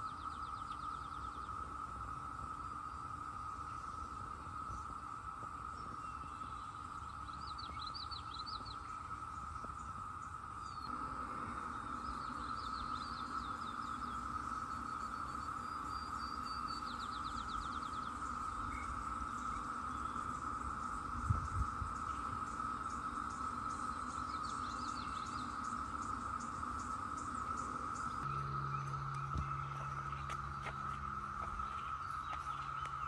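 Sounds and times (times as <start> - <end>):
cicadas buzzing: 0.0 - 33.0
birds chirping: 2.7 - 33.0.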